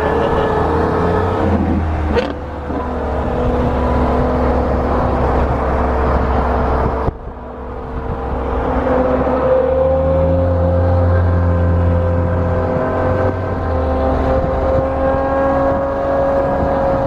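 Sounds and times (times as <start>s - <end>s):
car engine and exhaust droning: 0.0s - 17.0s.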